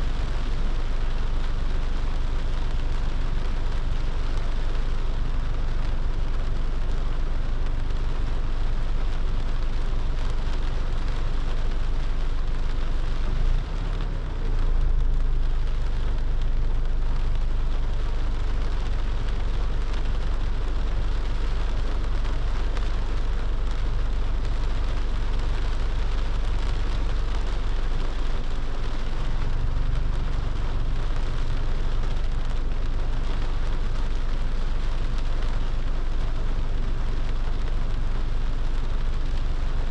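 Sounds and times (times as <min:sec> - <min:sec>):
car tyres rumbling on wet road: 0:00.0 - 0:39.9
rain falling on car: 0:00.0 - 0:39.9.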